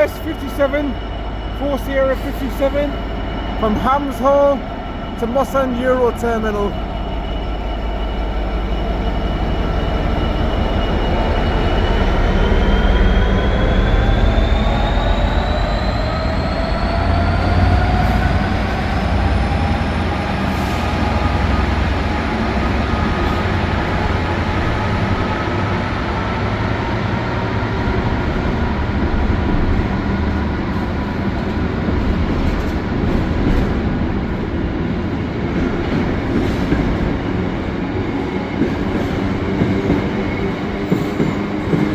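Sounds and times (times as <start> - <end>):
diesel locomotive engine droning: 0.0 - 41.9
train rumbling past: 0.0 - 41.9.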